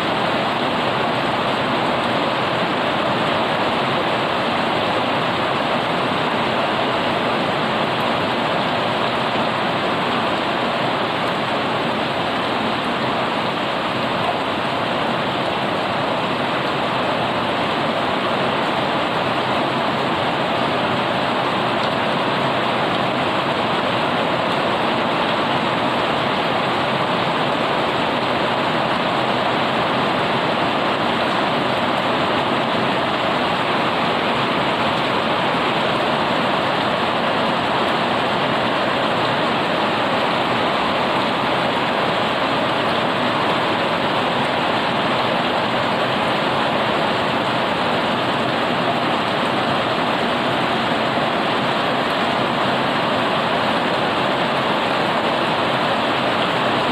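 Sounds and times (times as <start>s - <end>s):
heavy rain on concrete and leaves: 0.0s - 56.9s.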